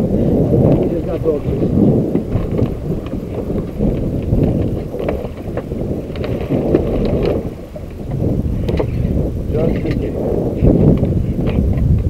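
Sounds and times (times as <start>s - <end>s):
wind rumbling on microphone: 0.0s - 12.0s
water slapping boat hull: 0.1s - 12.0s.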